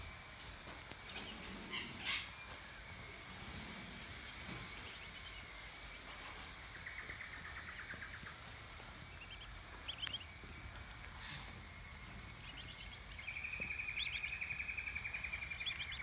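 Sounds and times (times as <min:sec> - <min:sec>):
outdoor background hum: 0:00.0 - 0:16.0
birds chirping: 0:00.9 - 0:16.0.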